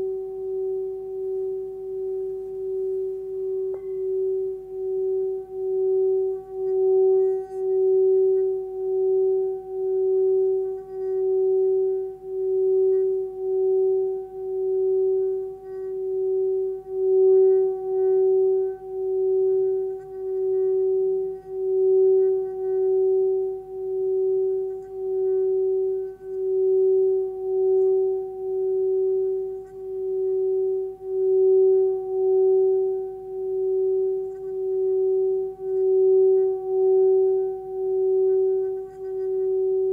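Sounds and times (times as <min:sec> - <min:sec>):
singing bowl rim rubbed: 0:00.0 - 0:39.9.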